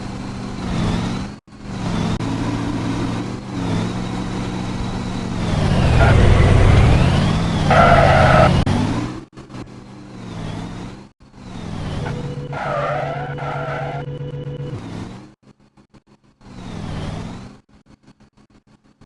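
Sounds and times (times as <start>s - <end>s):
vehicle engine: 0.0s - 19.0s.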